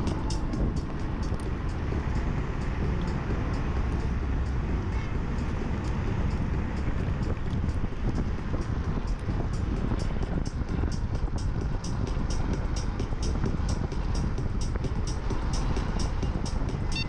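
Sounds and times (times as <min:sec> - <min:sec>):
electric scooter road rumble: 0:00.0 - 0:17.0
wind buffeting microphone: 0:00.0 - 0:17.0.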